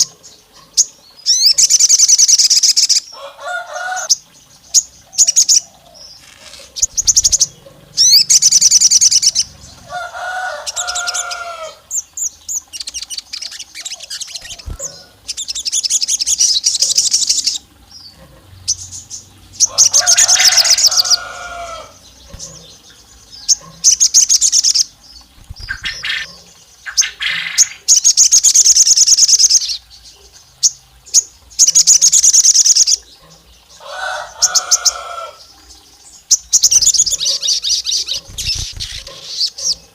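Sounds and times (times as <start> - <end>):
bird singing trilled chirps: 4.0 - 9.9, 10.6 - 39.8.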